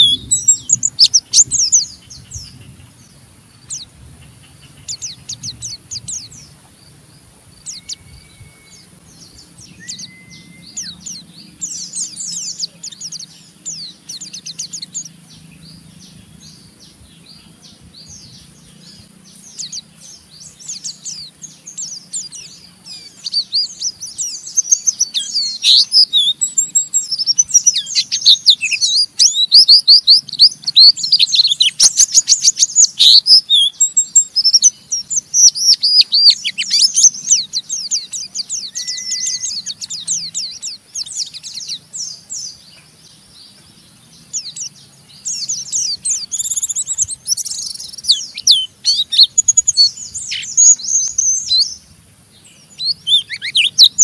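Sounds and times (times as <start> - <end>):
white-eyes twittering chirps: 0.0 - 54.0.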